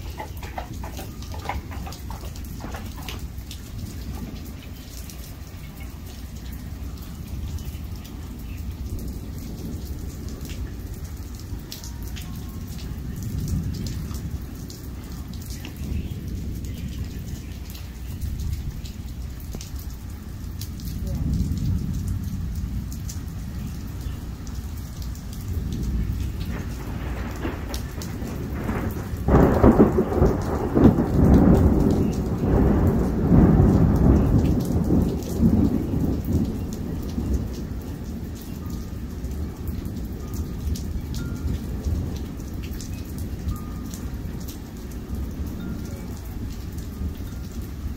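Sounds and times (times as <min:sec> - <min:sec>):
thunder rumbling: 0:00.0 - 0:07.5, 0:12.6 - 0:47.9
heavy rain falling: 0:00.0 - 0:47.9.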